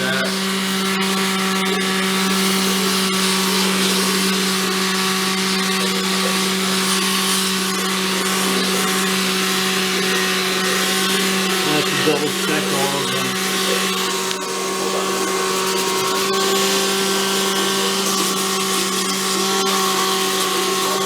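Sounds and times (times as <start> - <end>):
power tool motor humming: 0.0 - 21.0.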